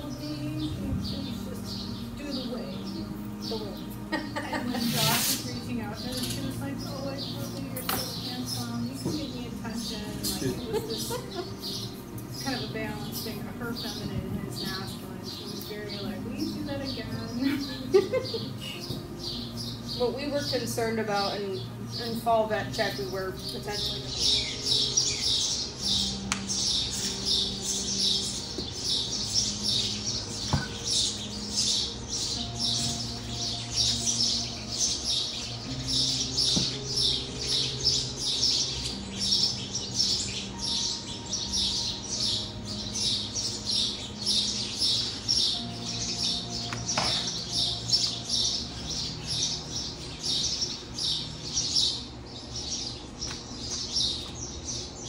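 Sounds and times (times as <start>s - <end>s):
high-pitched rhythmic chirping: 0.0s - 55.0s.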